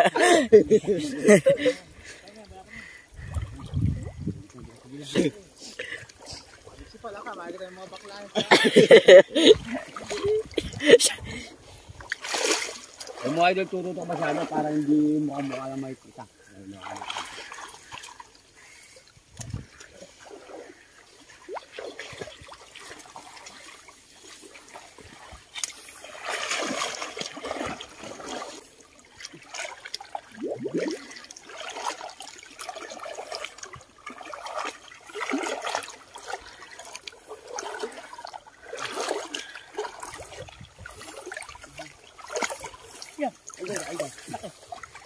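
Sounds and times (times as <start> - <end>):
water sloshing and splashing: 0.0 - 45.0.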